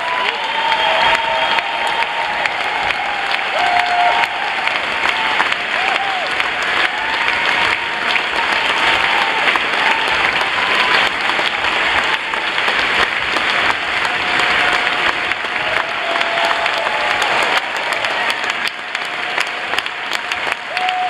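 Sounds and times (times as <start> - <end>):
audience applauding: 0.0 - 21.0
people cheering: 0.0 - 21.0.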